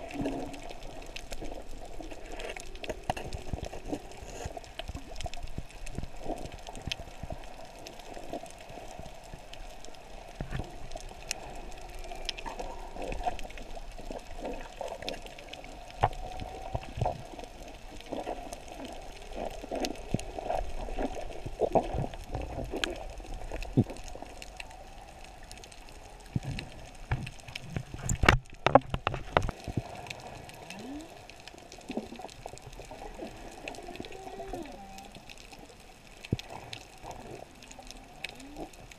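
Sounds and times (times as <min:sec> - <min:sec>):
muffled underwater hum: 0:00.0 - 0:38.9
underwater clicks and crackles: 0:00.0 - 0:38.9.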